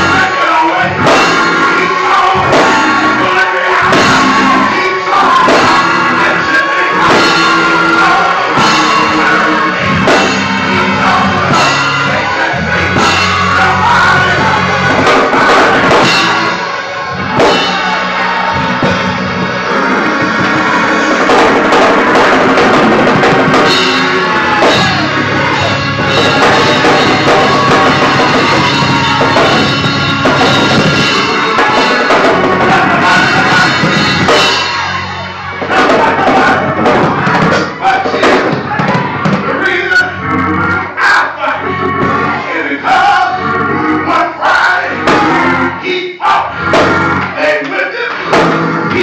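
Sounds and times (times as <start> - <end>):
drum kit beat: 0.0 - 40.9, 44.0 - 47.4, 48.1 - 49.0
organ chords: 0.0 - 49.0.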